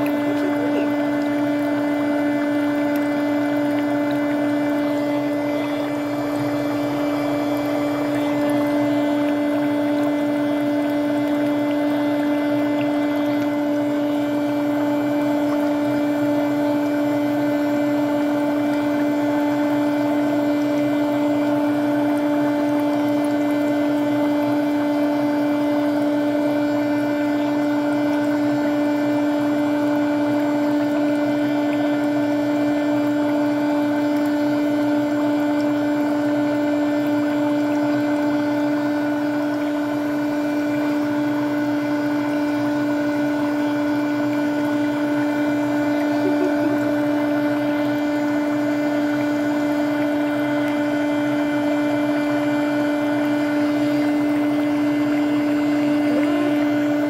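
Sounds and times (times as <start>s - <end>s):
air bubbling through water: 0.0s - 57.0s
foot spa motor hum: 0.0s - 57.0s.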